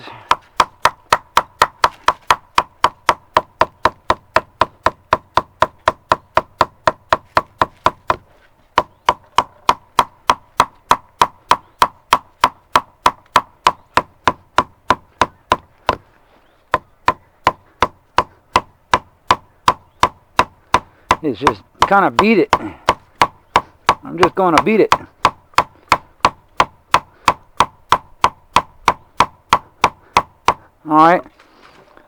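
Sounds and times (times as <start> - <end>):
leaves being beaten: 0.0 - 16.1, 16.7 - 30.7.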